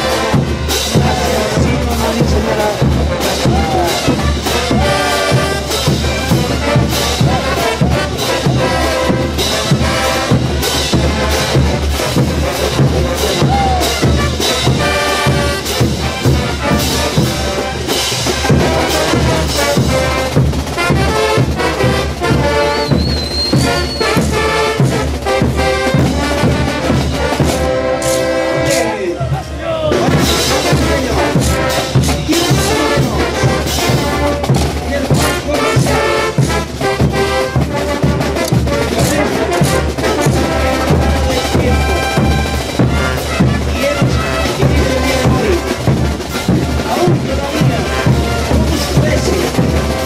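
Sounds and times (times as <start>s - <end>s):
brass band playing: 0.0s - 50.0s
steady drum beat: 0.0s - 50.0s.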